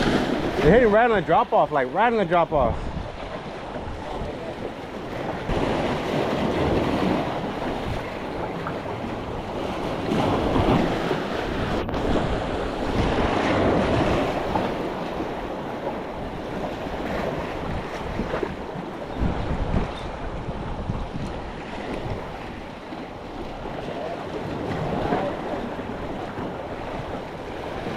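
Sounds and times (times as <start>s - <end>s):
ocean waves washing in: 0.0s - 27.9s
wind rumbling on microphone: 0.0s - 27.9s.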